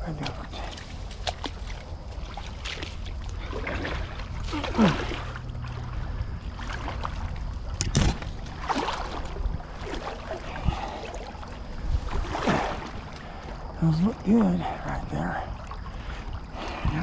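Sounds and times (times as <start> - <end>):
wading through shallow water: 0.0 - 17.0.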